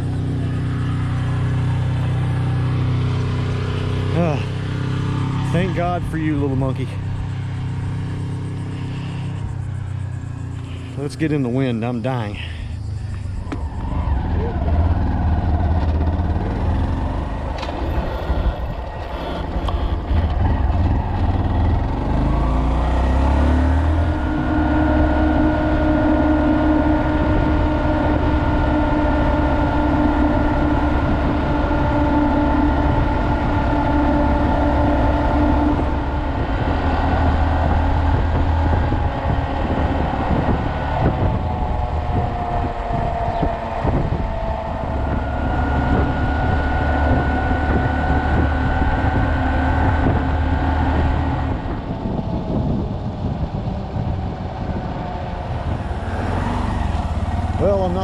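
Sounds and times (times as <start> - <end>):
motorcycle engine accelerating: 0.0 - 58.0
wind rumbling on microphone: 0.0 - 58.0.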